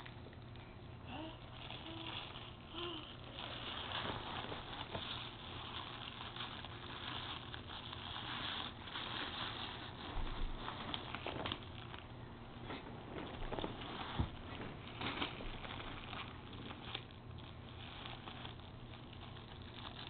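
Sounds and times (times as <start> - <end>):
cellophane wrap crinkling: 0.0 - 20.0
sharp cellophane crackles: 1.0 - 20.0.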